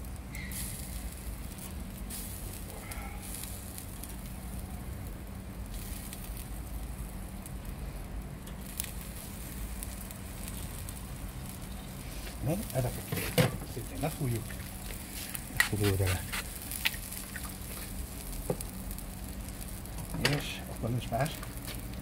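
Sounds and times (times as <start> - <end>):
seafood sizzling on grill: 0.0 - 22.0.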